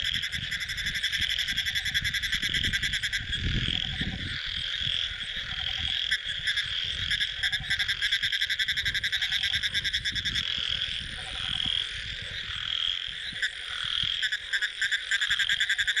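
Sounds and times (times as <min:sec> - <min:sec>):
frogs calling in pulses: 0:00.0 - 0:16.0.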